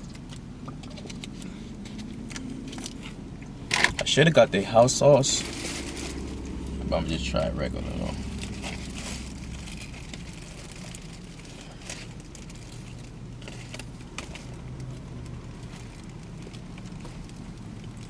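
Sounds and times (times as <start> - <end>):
steady low hum: 0.0 - 18.0
wrapping crinkling: 0.0 - 18.0.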